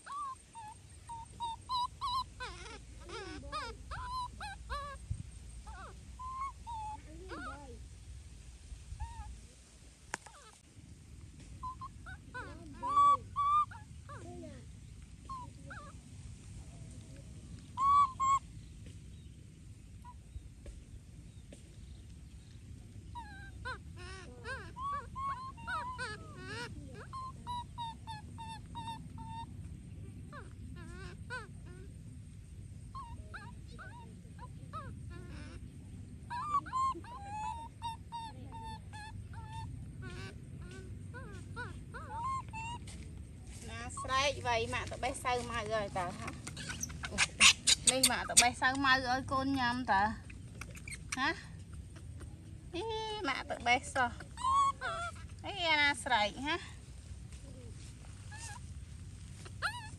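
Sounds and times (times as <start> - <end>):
monkey calling: 0.0 - 7.8, 11.6 - 14.6, 15.2 - 16.0, 17.5 - 18.5, 23.0 - 56.6, 57.3 - 59.9
low background noise: 0.0 - 59.9
low steady rumble: 0.0 - 59.9.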